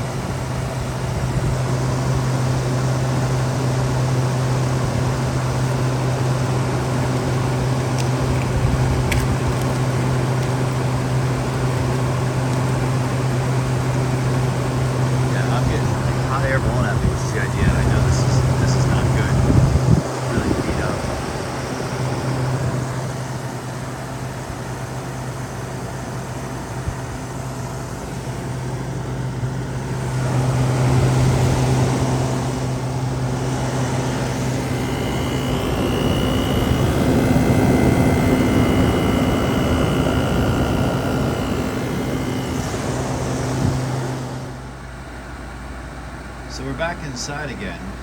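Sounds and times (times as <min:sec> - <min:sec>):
air conditioner fan rush: 0:00.0 - 0:48.0
air conditioner humming: 0:00.0 - 0:48.0
faint high whine: 0:00.0 - 0:48.0.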